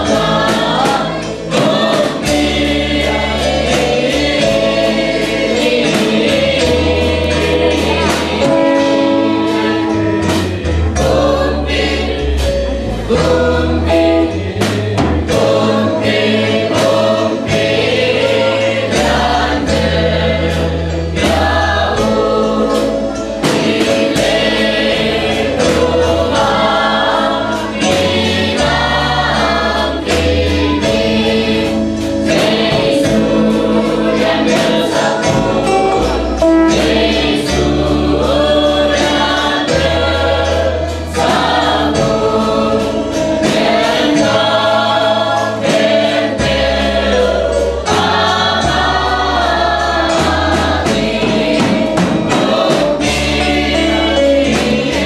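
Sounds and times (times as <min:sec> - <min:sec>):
accompaniment with bass and beat: 0:00.0 - 0:55.0
choir singing a hymn: 0:00.0 - 0:55.0.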